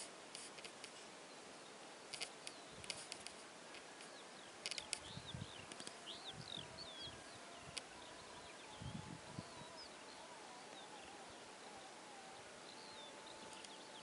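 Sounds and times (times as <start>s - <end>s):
small birds chirping: 0.0s - 14.0s
faint wavering hum: 1.0s - 14.0s.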